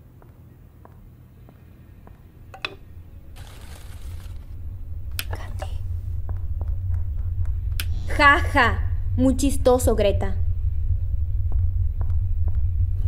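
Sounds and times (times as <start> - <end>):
low rumbling drone: 1.8 - 13.0.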